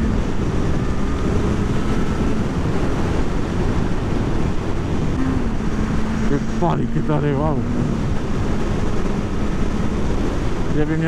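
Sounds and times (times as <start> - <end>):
motorcycle engine running: 0.0 - 11.0
wind rushing on microphone: 0.0 - 11.0.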